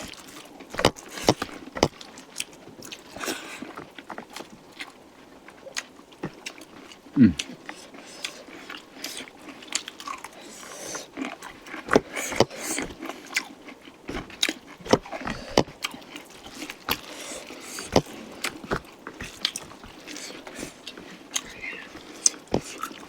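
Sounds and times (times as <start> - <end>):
close chewing and biting: 0.0 - 23.0.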